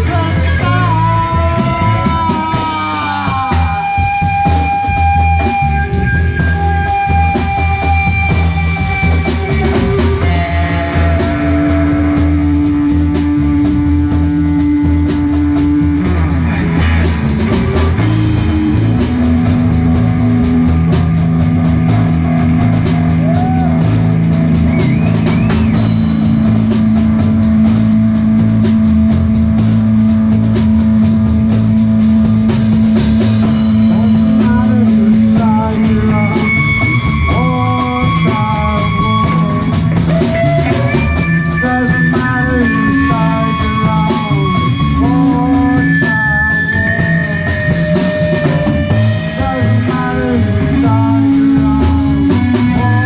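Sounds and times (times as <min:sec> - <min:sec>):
long held electric guitar notes: 0:00.0 - 0:53.0
rock band playing: 0:00.0 - 0:53.0.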